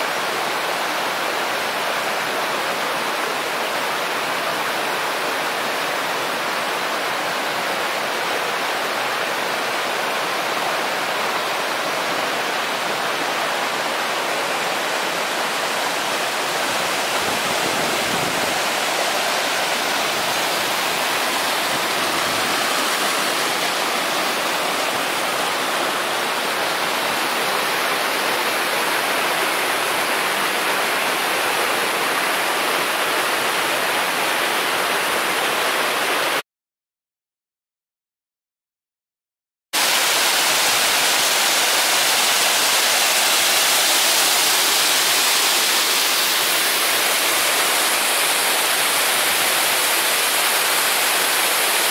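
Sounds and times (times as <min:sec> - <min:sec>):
stream rushing over rocks: 0:00.0 - 0:36.4, 0:39.8 - 0:51.9.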